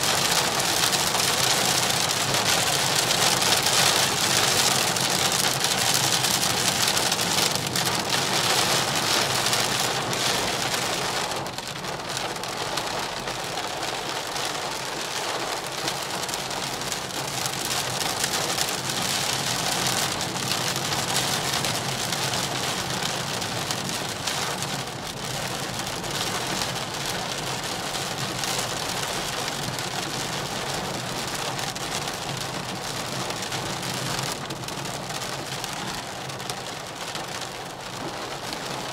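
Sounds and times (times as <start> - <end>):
heavy rain drumming on car roof: 0.0 - 38.9.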